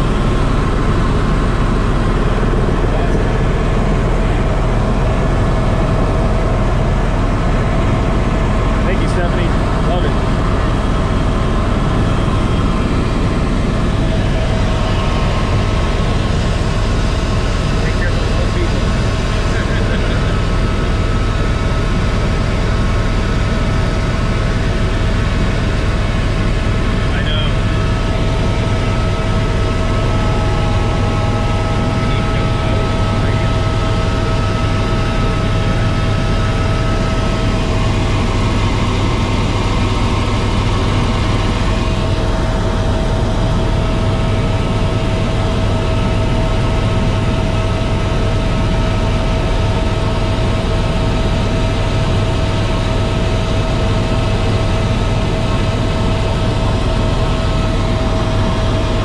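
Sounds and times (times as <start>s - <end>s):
helicopter rotor rumble: 0.0s - 59.0s
turbine high whine: 0.0s - 59.0s.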